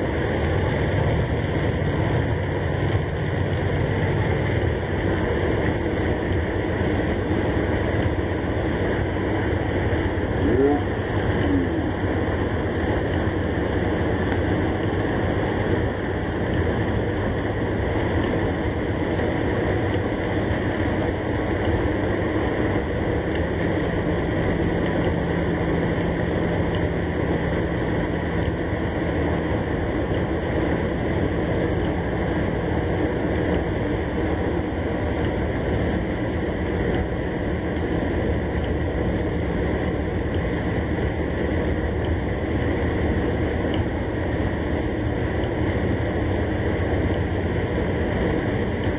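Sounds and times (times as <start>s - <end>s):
rain on a car: 0.0s - 48.9s
road noise inside a car: 0.0s - 48.9s.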